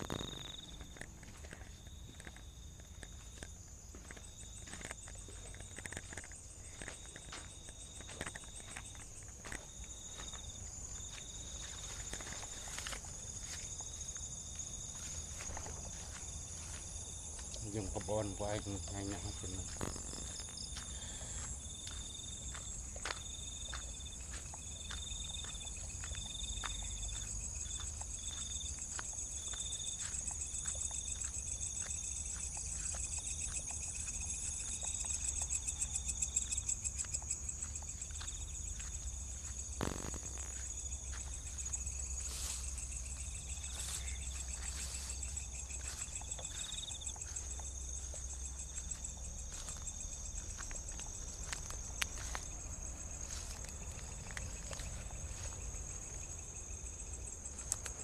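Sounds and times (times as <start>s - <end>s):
cricket chirping: 0.0s - 58.0s
faint footsteps: 0.0s - 58.0s
insects trilling chorus: 0.0s - 58.0s.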